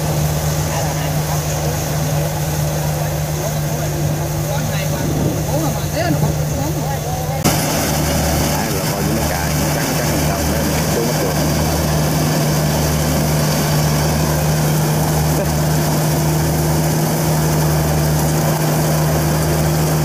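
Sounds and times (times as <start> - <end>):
diesel engine throbbing hum: 0.0 - 20.0.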